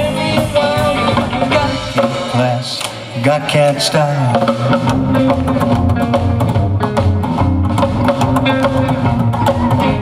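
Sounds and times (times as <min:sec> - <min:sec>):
deep bass notes: 0:00.0 - 0:10.0
rockabilly band playing: 0:00.0 - 0:10.0.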